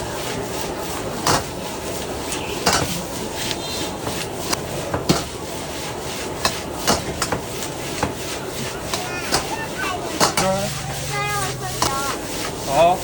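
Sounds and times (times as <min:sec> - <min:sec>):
wok burner roar: 0:00.0 - 0:13.0.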